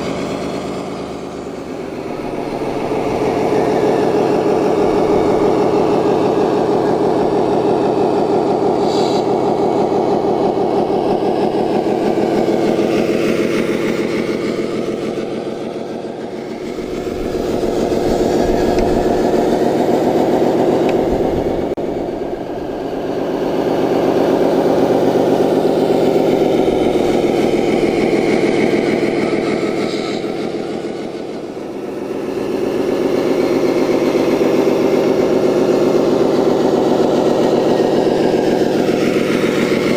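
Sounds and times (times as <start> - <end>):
simulated diesel engine: 0.0 - 39.9.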